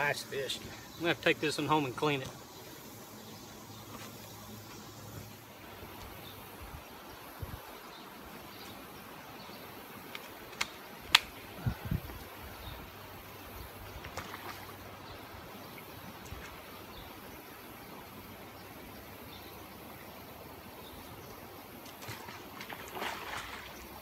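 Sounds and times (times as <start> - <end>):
outdoor background noise: 0.0 - 24.0.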